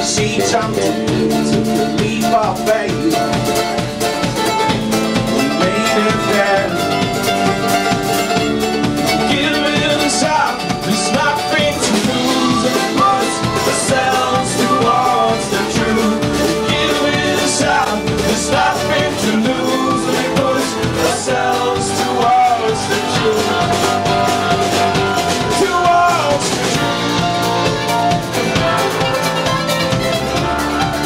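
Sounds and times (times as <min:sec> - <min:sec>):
acoustic folk string band: 0:00.0 - 0:31.0
banjo: 0:00.0 - 0:31.0
mandolin: 0:00.0 - 0:31.0.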